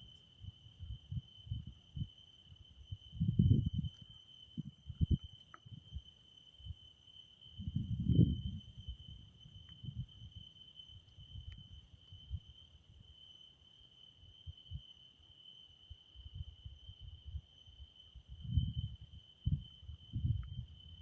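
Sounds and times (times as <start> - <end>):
wind rumbling on microphone: 0.0 - 6.8, 7.5 - 13.1, 14.3 - 14.9, 16.2 - 21.0
crickets trilling: 0.0 - 21.0.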